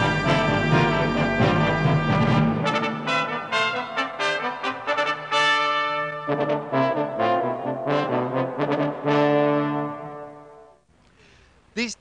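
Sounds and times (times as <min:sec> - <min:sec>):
brass theme music: 0:00.0 - 0:10.9.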